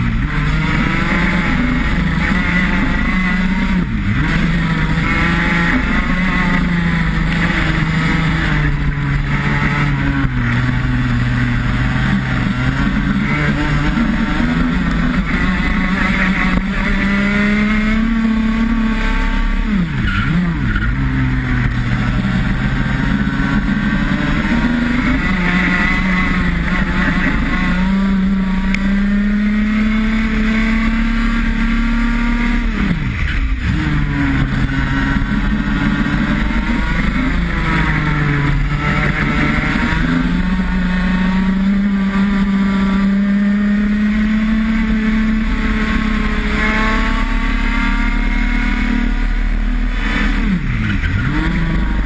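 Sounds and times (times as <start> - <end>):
kart engine at racing speed: 0.0 - 52.0.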